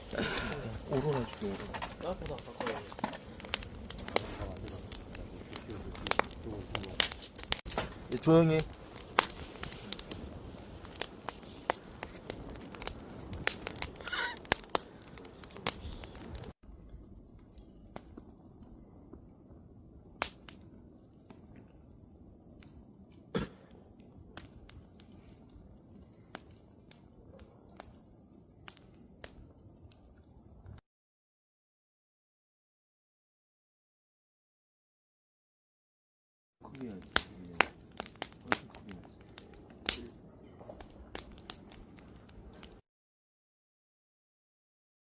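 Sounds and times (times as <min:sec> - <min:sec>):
campfire crackling and popping: 0:00.0 - 0:30.8, 0:36.6 - 0:42.8.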